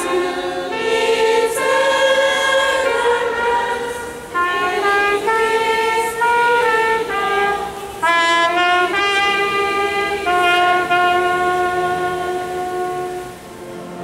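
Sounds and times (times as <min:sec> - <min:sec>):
trumpet slow melody: 0:00.0 - 0:14.0.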